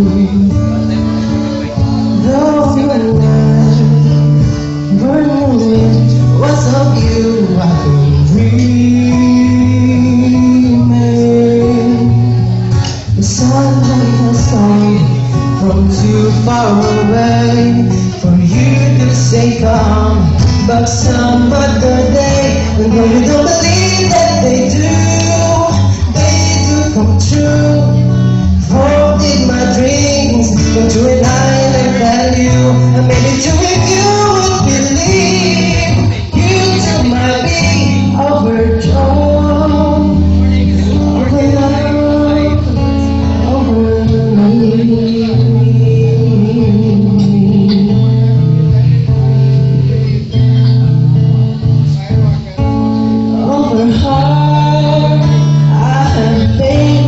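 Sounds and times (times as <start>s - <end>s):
person singing: 0.0s - 50.8s, 51.6s - 57.0s
band playing soul ballad: 0.0s - 57.0s
guitar melody: 0.0s - 57.0s
held bass notes: 0.0s - 57.0s.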